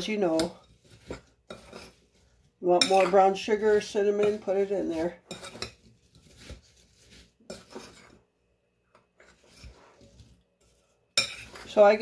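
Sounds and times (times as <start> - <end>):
spoon scraping a bowl: 0.0 - 8.2, 9.0 - 12.0.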